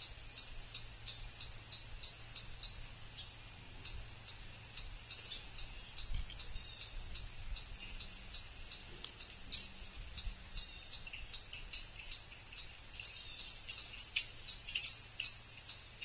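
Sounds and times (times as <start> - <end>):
bird twittering: 0.0 - 16.0
faint low hum: 0.0 - 16.0.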